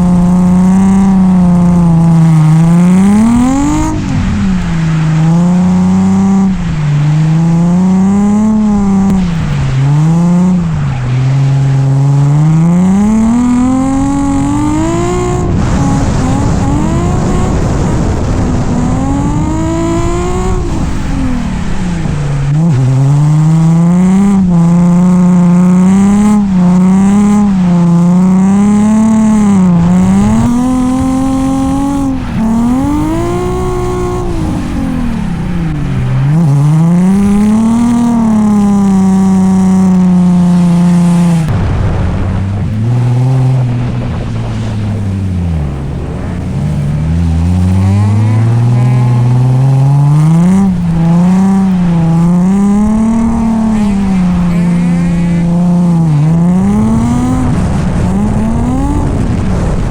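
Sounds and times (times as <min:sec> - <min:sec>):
car engine revving: 0:00.0 - 0:59.9
tire noise: 0:00.0 - 0:59.9.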